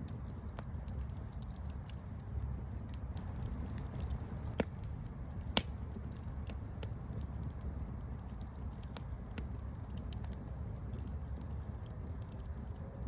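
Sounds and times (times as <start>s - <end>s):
wood campfire crackling: 0.0s - 13.0s.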